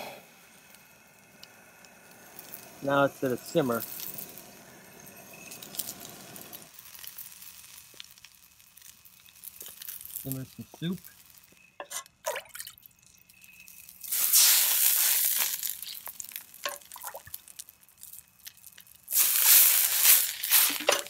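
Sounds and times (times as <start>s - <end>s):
water hissing on hot wok: 0.0s - 21.0s.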